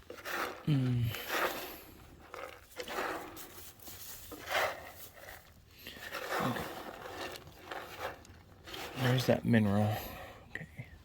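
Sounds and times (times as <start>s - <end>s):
goats scuffing and scraping: 0.0s - 9.9s.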